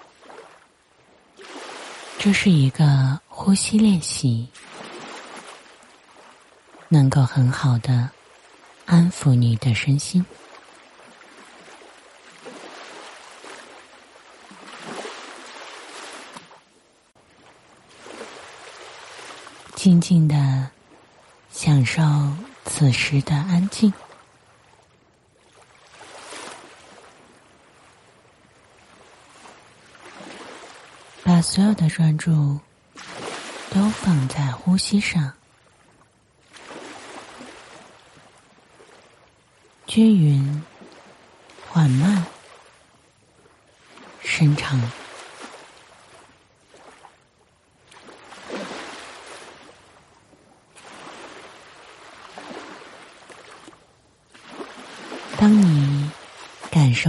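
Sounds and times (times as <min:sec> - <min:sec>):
ocean waves washing on shore: 0:00.0 - 0:57.0.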